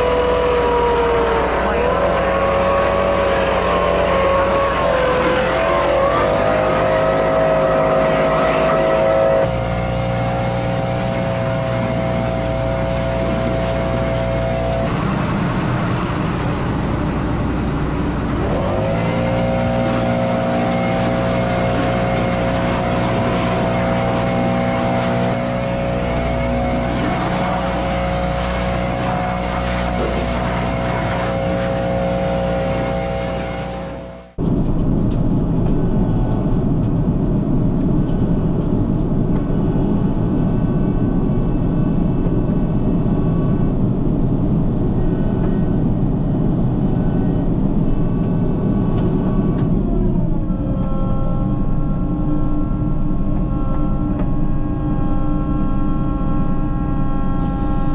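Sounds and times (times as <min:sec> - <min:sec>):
combine harvester engine whine: 0:00.0 - 0:57.9.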